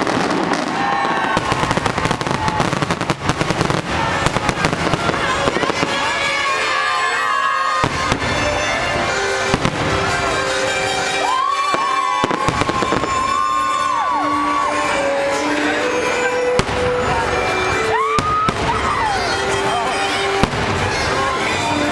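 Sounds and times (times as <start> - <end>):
fireworks bangs: 0.0 - 21.9
fireworks crackling: 0.0 - 21.9
music playing: 0.1 - 21.9.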